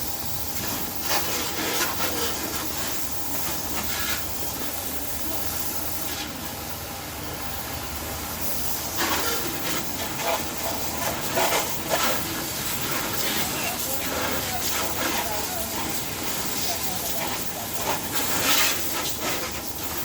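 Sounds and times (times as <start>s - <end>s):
water jet spraying: 0.0s - 6.6s, 8.3s - 20.0s.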